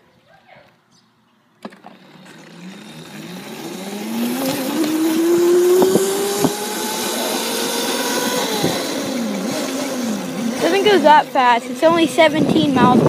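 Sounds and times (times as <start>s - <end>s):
wind and road noise: 0.8s - 13.0s
electric motor whine rising: 1.6s - 13.0s.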